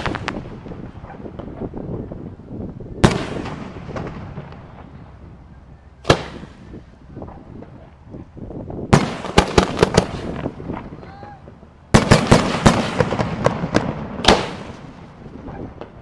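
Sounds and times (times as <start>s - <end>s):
fireworks bangs: 0.0s - 2.1s, 3.0s - 8.2s, 8.8s - 16.0s
fireworks crackling and pops: 0.0s - 16.0s.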